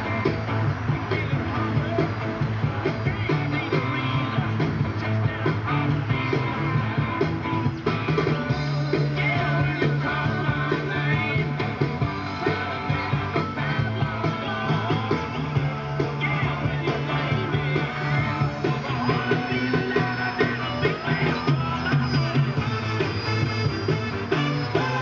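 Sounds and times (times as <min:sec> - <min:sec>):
rock music with guitar and vocals: 0:00.0 - 0:25.0.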